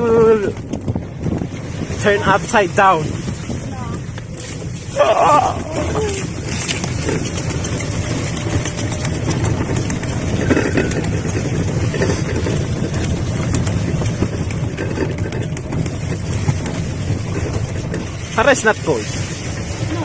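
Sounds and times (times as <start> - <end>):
vehicle motor rumbling: 0.0 - 20.0.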